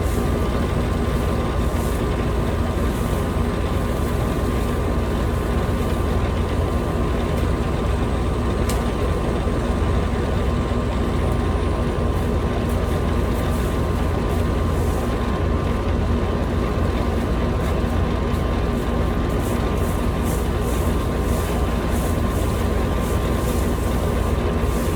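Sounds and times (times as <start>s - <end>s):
heavy equipment engine rumbling: 0.0s - 24.9s.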